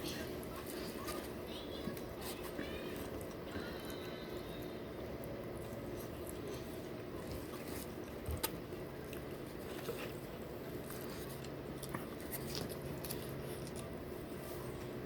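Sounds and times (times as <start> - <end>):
person chewing: 2.5 - 15.0.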